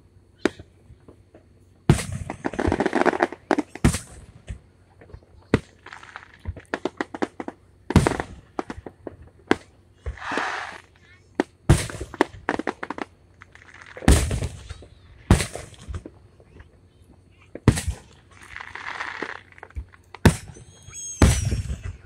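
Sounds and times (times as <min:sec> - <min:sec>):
firework shells booming: 0:00.4 - 0:22.0
crackling pops: 0:01.9 - 0:20.6.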